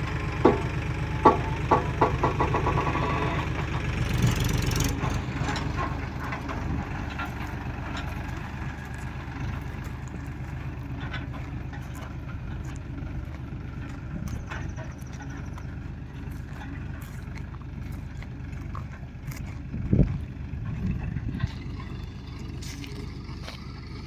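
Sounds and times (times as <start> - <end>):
diesel engine running steadily: 0.0 - 24.0.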